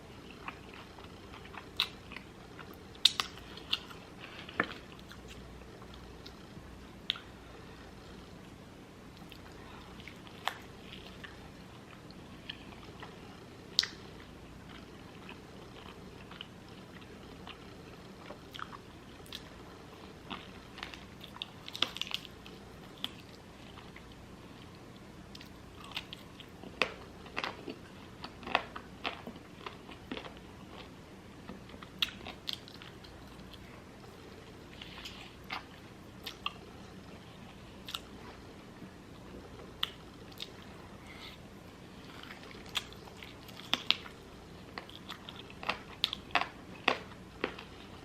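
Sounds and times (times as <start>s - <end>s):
chewing and crunching: 0.1s - 6.5s, 9.2s - 48.0s.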